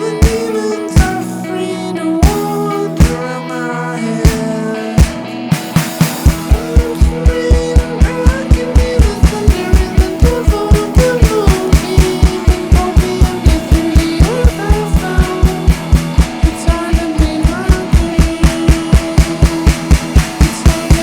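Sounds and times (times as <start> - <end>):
electronic drums beat: 0.0 - 1.5, 2.2 - 3.3, 4.3 - 21.0
rock band instrumental: 0.0 - 21.0.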